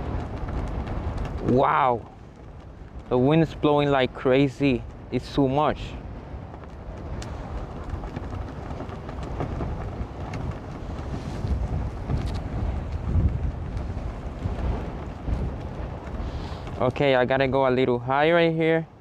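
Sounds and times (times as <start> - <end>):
strong gusty wind on microphone: 0.0 - 19.0.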